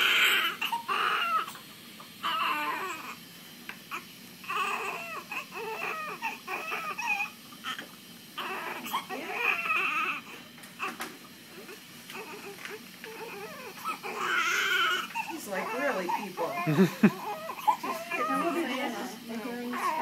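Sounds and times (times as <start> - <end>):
newborn baby crying: 0.0 - 1.6, 2.2 - 3.2, 3.9 - 7.4, 8.4 - 11.0, 11.6 - 20.0.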